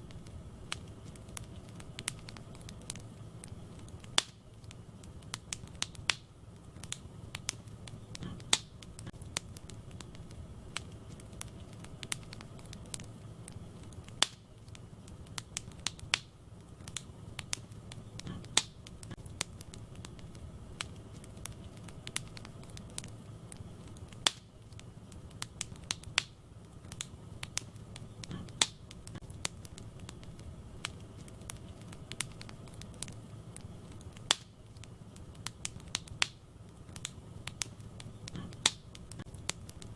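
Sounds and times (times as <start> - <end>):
low rumble of burning logs: 0.0 - 39.9
wood fire crackling and popping: 0.0 - 39.9.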